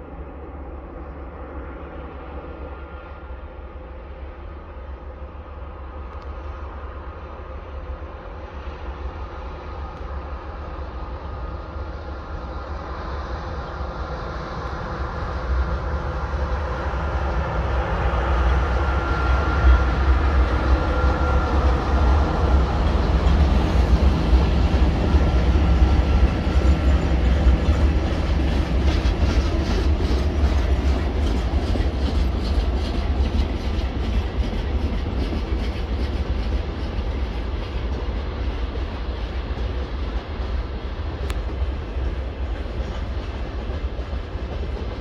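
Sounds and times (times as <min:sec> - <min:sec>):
diesel locomotive engine running: 0:00.0 - 0:45.0
train wagons rumbling: 0:08.9 - 0:45.0.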